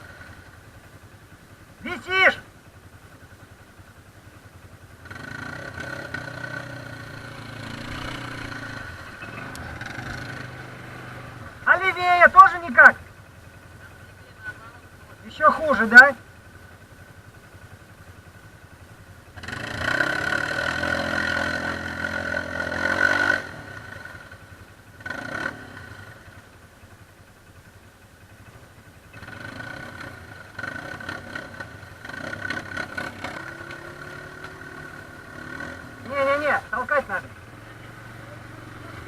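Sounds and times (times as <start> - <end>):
atv engine revving and idling: 0.0 - 39.0.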